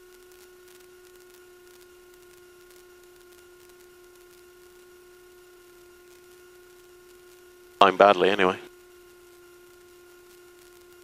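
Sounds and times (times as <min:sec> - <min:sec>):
faint electrical hum: 0:00.0 - 0:11.0
light static: 0:00.0 - 0:11.0.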